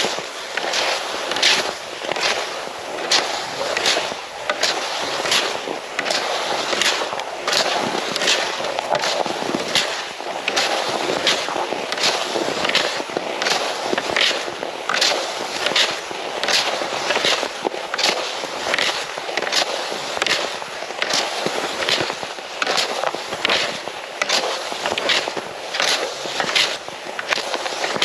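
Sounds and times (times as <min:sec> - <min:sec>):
footsteps crunching on trail: 0:00.0 - 0:28.0.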